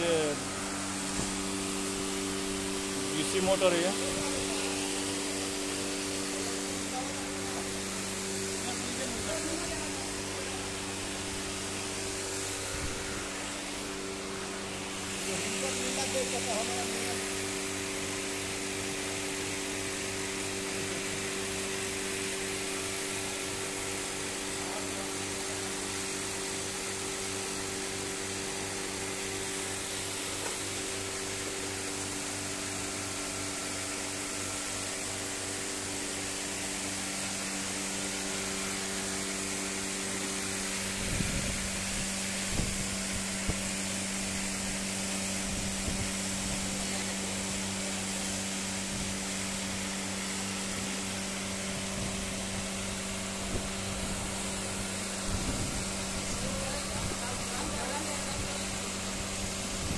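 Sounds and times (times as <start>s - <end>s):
electric machinery hum: 0.0s - 59.9s.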